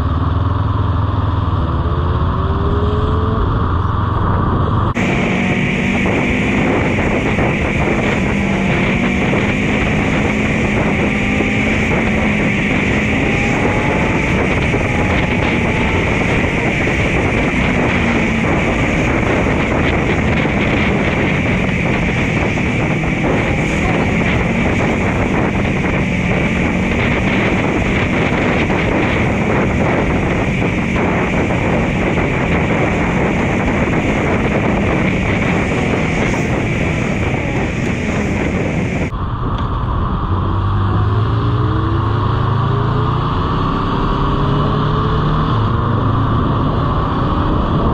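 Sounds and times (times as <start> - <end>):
motorcycle engine cruising: 0.0 - 47.9
wind noise on microphone: 0.0 - 47.9.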